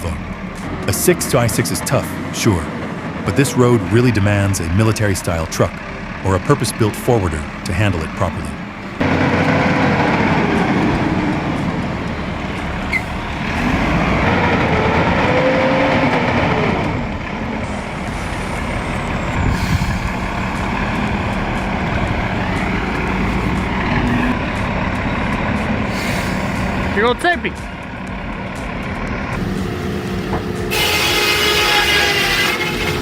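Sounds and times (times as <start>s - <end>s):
truck diesel engine under load: 0.0s - 33.0s.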